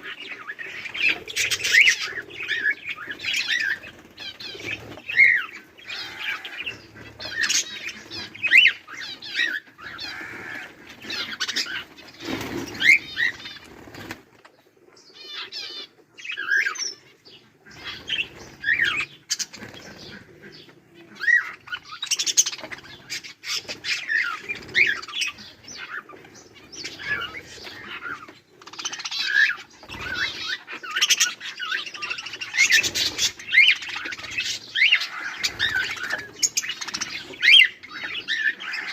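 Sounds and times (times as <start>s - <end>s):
budgerigars chirping: 0.0s - 13.8s, 15.1s - 38.9s.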